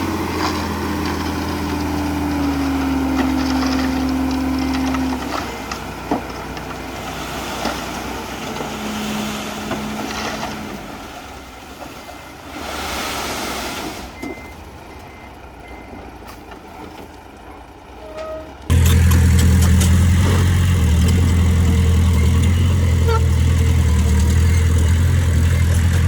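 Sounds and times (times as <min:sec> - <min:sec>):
truck engine running: 0:00.0 - 0:12.5, 0:14.4 - 0:26.0
distant construction machinery: 0:00.0 - 0:26.0.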